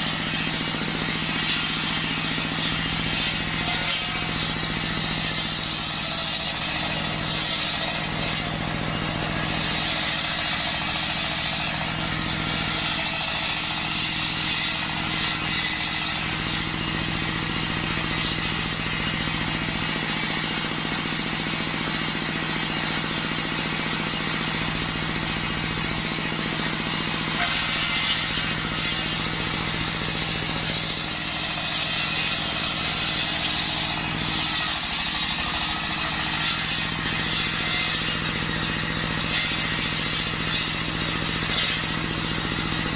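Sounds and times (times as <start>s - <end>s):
saw blade hissing through wood: 0.0s - 42.9s
stationary engine running: 0.0s - 42.9s.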